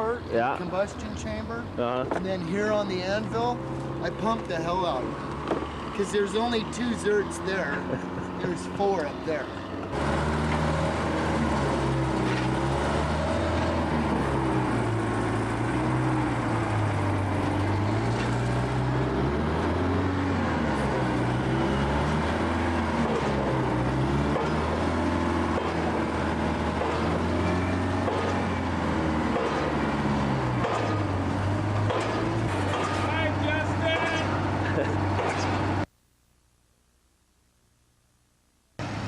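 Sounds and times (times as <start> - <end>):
heavy engine revving: 0.0 - 35.9.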